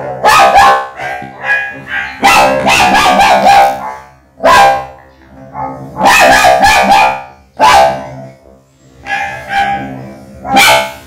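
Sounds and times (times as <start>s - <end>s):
robotic processed dog barks: 0.0s - 8.4s, 9.0s - 11.0s.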